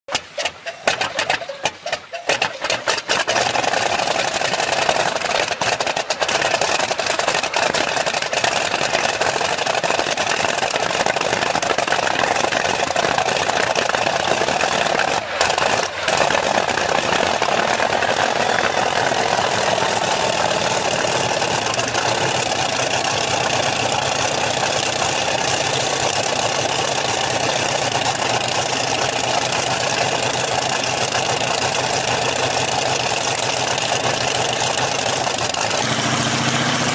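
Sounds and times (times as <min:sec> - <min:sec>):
helicopter engine starting: 0:00.1 - 0:36.9.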